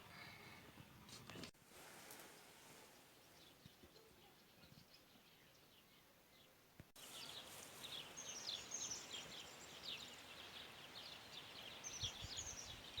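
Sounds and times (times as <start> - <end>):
faint outdoor hiss: 0.0 - 13.0
small birds chirping: 0.1 - 13.0.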